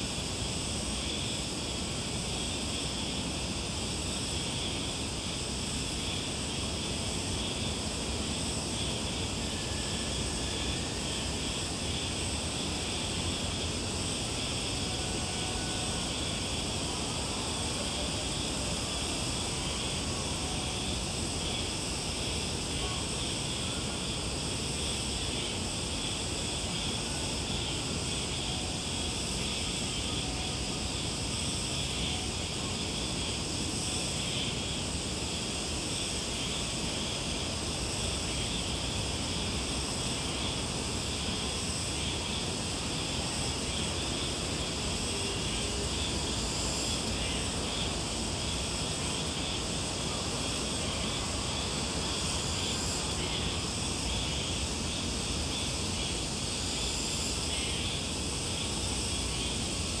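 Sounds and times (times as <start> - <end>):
insects shrilling: 0.0 - 60.0.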